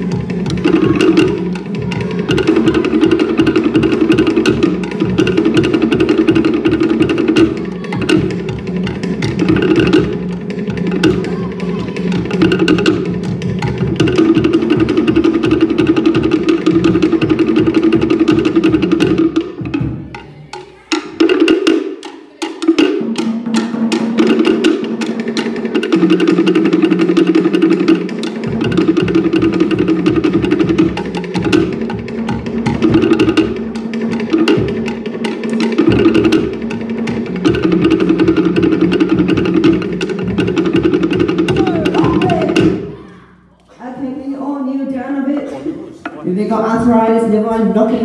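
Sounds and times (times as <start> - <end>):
deep drum beat: 0.0 - 43.0
slit-log drums beaten rapidly: 0.0 - 43.3.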